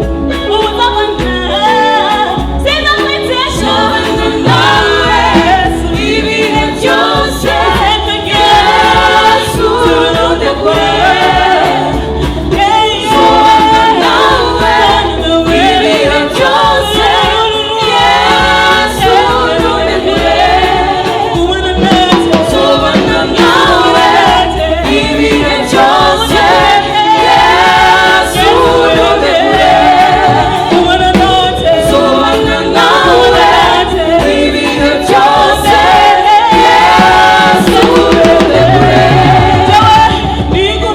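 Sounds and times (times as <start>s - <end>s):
gospel song with choir: 0.0s - 40.9s.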